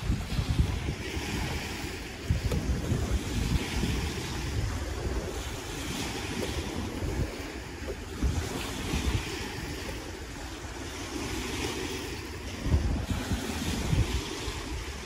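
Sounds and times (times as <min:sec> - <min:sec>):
small waves on stony shore: 0:00.0 - 0:15.0
wind buffeting microphone: 0:00.0 - 0:15.0.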